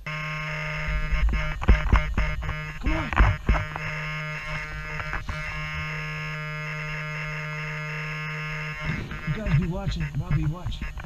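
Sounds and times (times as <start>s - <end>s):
low electronic buzz: 0.0s - 11.0s.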